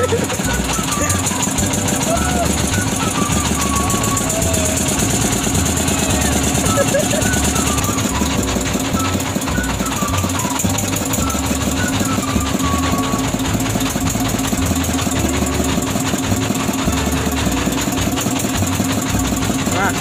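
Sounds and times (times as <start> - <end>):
boat engine knocking: 0.0 - 20.0.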